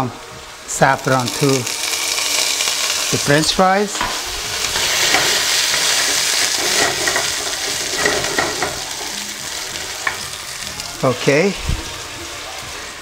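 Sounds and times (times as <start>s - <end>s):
fries sizzling in oil: 0.0s - 13.0s.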